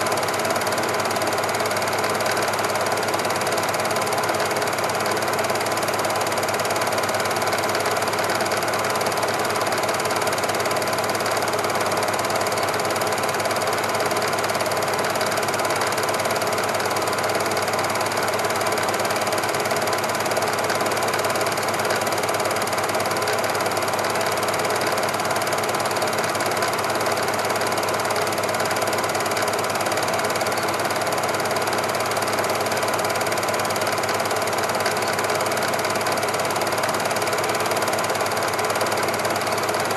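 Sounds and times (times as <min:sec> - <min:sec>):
film clattering through projector: 0:00.0 - 0:39.9
film projector whirring: 0:00.0 - 0:39.9.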